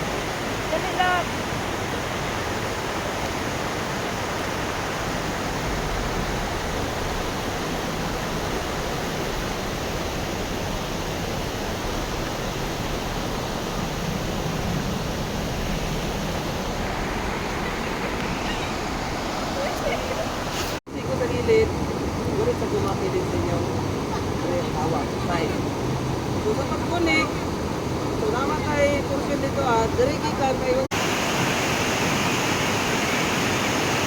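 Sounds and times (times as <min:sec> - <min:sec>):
fast-flowing river water: 0:00.0 - 0:34.0.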